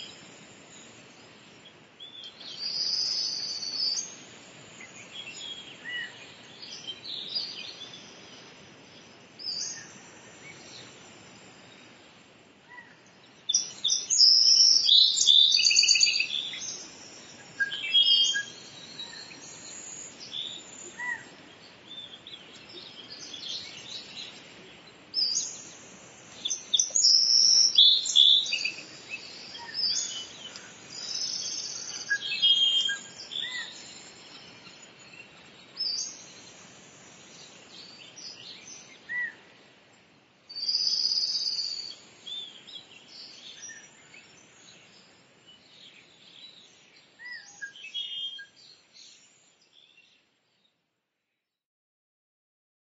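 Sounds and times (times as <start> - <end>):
songbirds chirping and singing: 0.0 - 50.3
faint outdoor hiss: 0.0 - 51.5.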